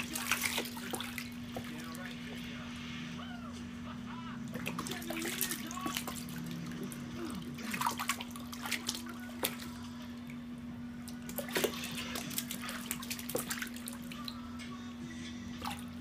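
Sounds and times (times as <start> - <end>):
water splashing in a plastic bathtub: 0.0 - 2.6, 4.5 - 14.7, 15.5 - 16.0
low steady hum: 0.0 - 16.0.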